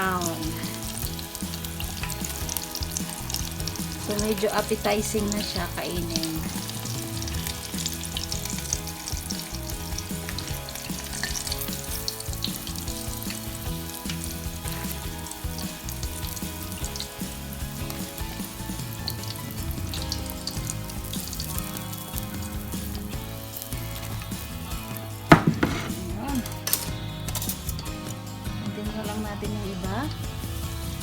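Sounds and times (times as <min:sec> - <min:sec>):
food frying in hot oil: 0:00.0 - 0:31.0.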